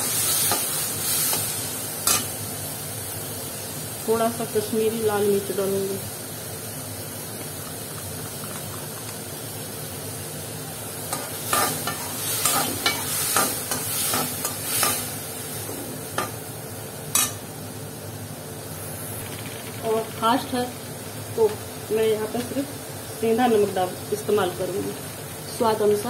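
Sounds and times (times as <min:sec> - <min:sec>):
tomatoes sizzling in pan: 0:00.0 - 0:26.0.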